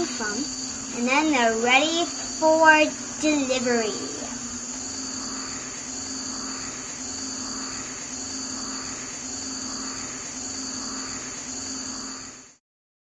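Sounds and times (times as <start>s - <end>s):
low hum: 0.0s - 12.5s
insect chorus: 0.0s - 12.6s.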